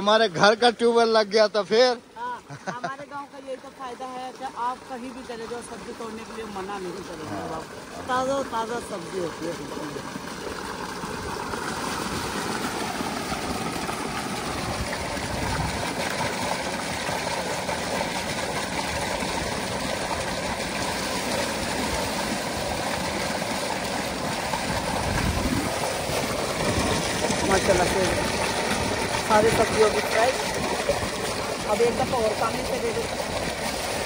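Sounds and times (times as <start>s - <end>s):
water gushing into a tank: 0.0s - 34.0s.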